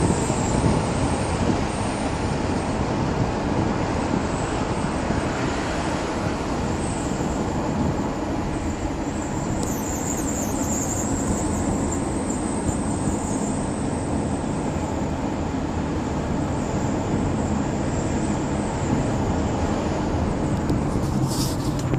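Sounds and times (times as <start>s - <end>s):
high-pitched wheel whine: 0.0s - 21.9s
road and tyre rumble: 0.0s - 21.9s.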